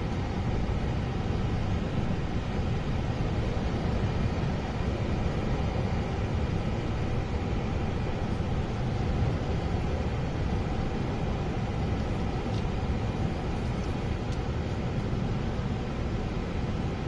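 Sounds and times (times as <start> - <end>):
car driving on paved road: 0.0 - 17.0.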